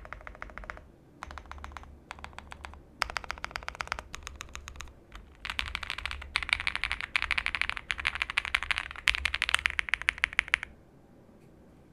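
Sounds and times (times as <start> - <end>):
fast mechanical keyboard typing: 0.0 - 10.7.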